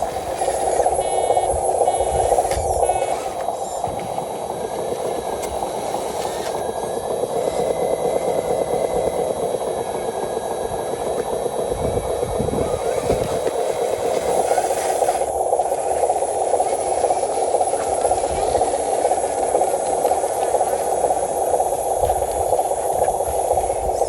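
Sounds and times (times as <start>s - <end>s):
faint motor whine: 0.0s - 24.0s
small electric motor and gearbox: 0.0s - 24.0s.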